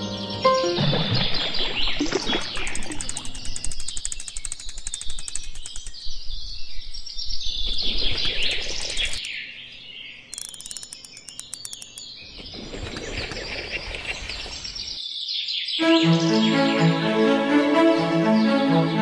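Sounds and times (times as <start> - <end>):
birds chirping and calling: 0.0 - 16.6.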